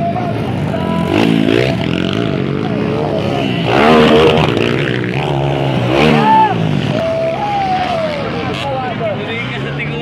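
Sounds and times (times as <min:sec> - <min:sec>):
dirt bike engine revving: 0:00.4 - 0:10.0.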